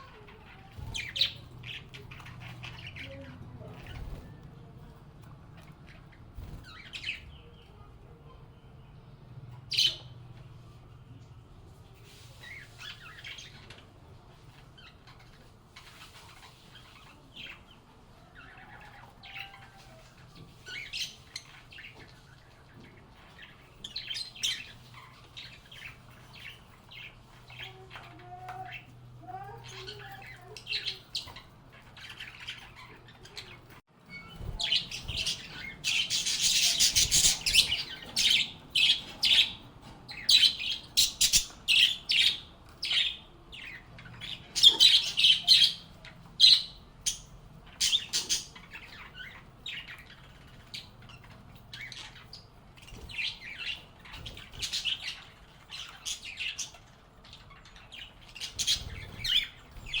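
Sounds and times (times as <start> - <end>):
lovebirds chirping and squawking: 0.0 - 60.0.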